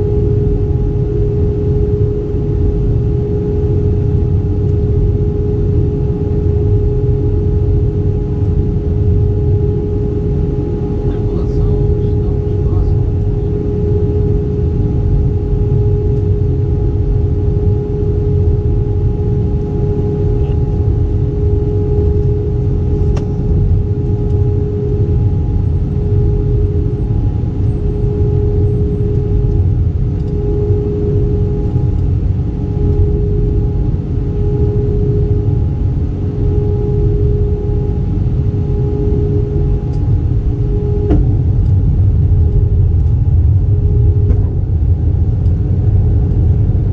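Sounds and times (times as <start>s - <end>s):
airliner cabin drone: 0.0s - 46.9s.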